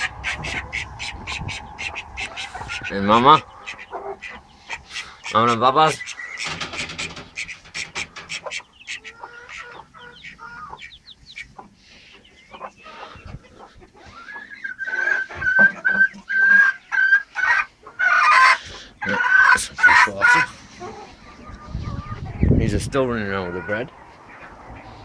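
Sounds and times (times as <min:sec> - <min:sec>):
chickens clucking: 0:00.0 - 0:25.0
chicks peeping: 0:00.0 - 0:25.0.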